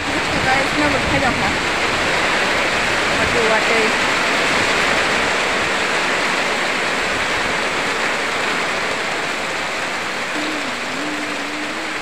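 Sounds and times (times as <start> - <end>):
heavy rain on foliage: 0.0 - 12.0.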